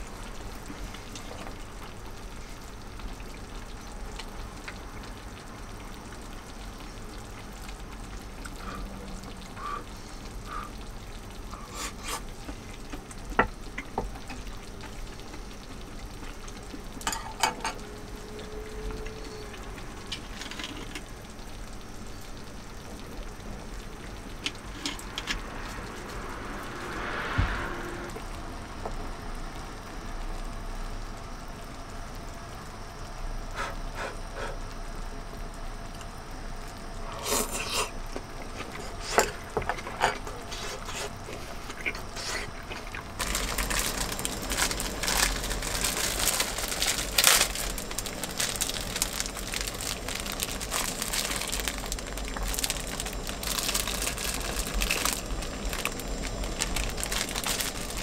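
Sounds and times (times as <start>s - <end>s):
dense crackling bubbling: 0.0s - 27.0s, 34.2s - 58.0s
broth simmering: 0.0s - 58.0s.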